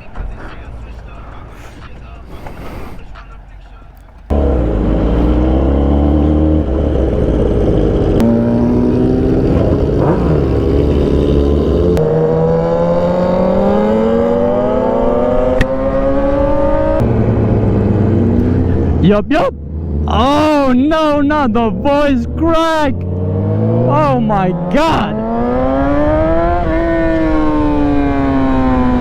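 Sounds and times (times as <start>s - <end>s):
motorcycle engine accelerating: 4.2s - 29.0s.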